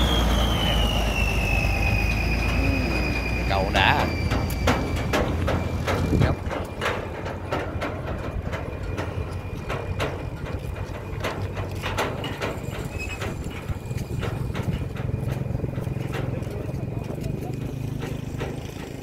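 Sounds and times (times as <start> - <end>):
tractor engine rumble: 0.0 - 19.0
trailer clanking: 0.0 - 19.0.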